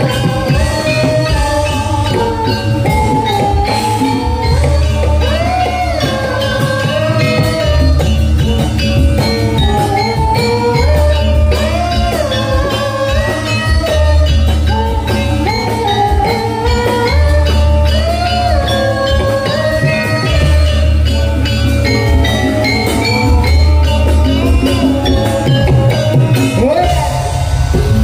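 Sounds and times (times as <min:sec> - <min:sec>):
gamelan melody with bending pitches: 0:00.0 - 0:28.0
percussion: 0:00.0 - 0:28.0.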